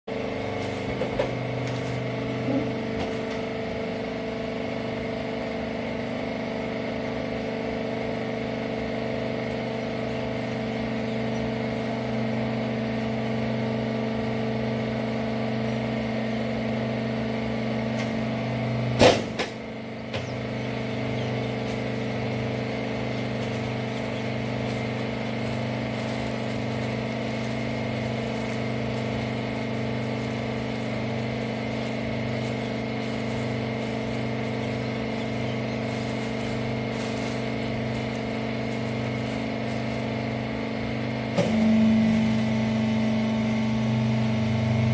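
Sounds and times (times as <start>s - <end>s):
baler machine humming: 0.1s - 44.9s.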